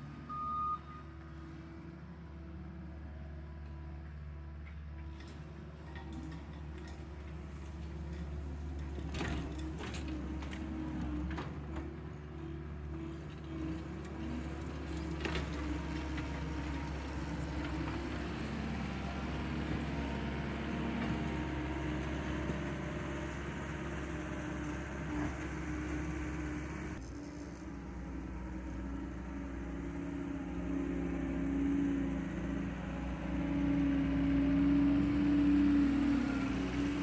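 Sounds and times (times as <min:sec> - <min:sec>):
tractor engine running: 0:01.2 - 0:37.0.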